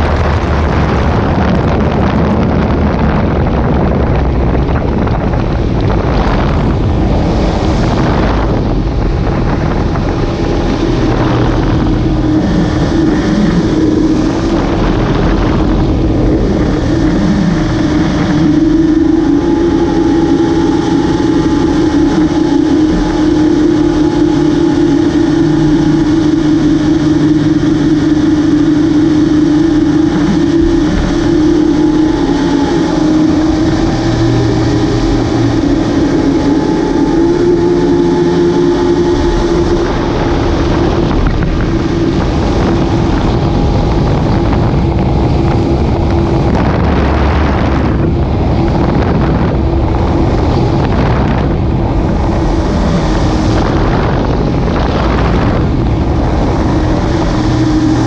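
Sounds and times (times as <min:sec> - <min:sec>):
jet boat engine drone: 0:00.0 - 0:58.0
jet thrust and spray rushing: 0:00.0 - 0:58.0.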